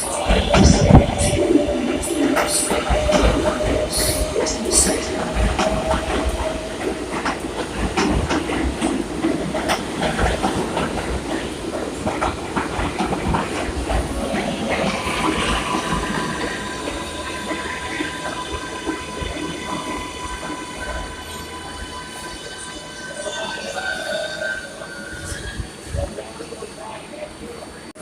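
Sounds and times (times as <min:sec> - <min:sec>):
subway train wheels clicking: 0:00.0 - 0:28.0.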